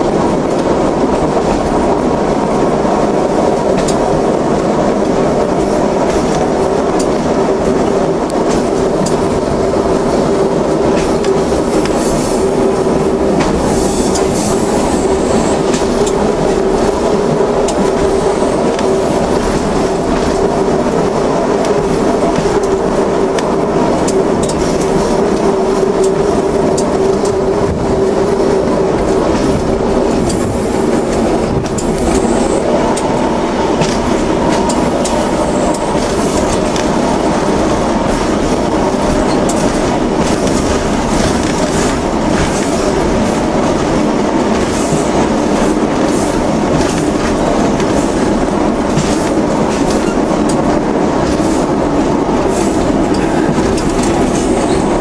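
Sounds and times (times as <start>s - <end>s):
train engine and rolling noise: 0.0s - 55.0s
wheels clacking over rail joints: 0.0s - 55.0s.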